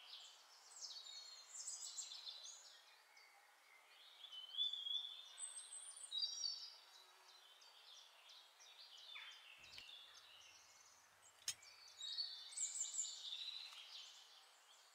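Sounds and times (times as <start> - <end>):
faint background hiss: 0.0 - 14.9
small birds chirping: 0.0 - 14.9.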